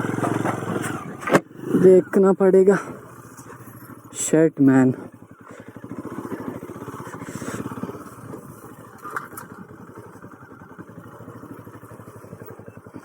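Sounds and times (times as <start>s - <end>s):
motorcycle engine running slowly: 0.0s - 13.0s.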